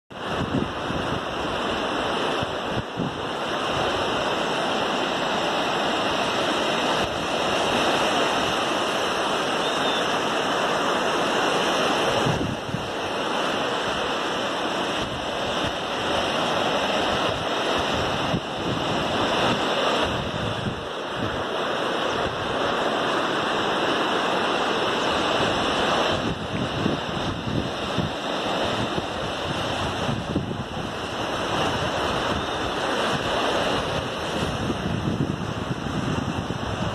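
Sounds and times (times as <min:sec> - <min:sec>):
ocean surf breaking: 0:00.1 - 0:36.9
wind on microphone: 0:00.1 - 0:36.9.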